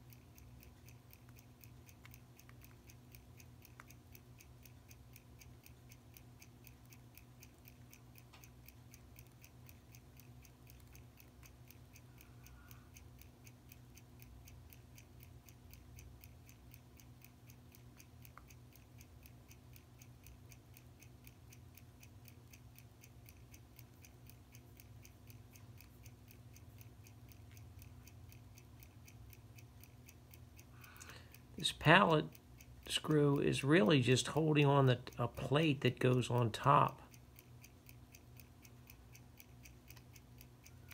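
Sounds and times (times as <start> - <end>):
low steady hum: 0.0 - 40.9
timepiece ticking: 0.0 - 40.9.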